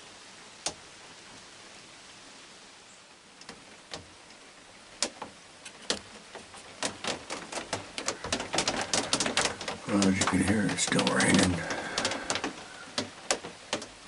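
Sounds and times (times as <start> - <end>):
raindrops ticking on wood: 0.0 - 2.4, 3.0 - 14.0
rain hiss: 0.0 - 14.0.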